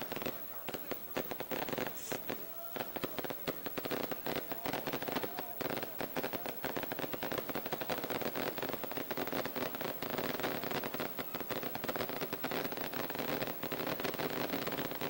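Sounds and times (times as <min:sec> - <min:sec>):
firecrackers popping rapidly: 0:00.0 - 0:15.0.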